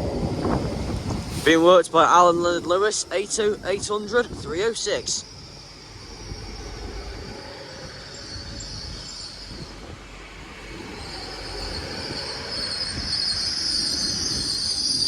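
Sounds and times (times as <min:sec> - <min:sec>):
train rumble: 0:00.0 - 0:15.0
train wheels and brakes squealing: 0:00.0 - 0:15.0.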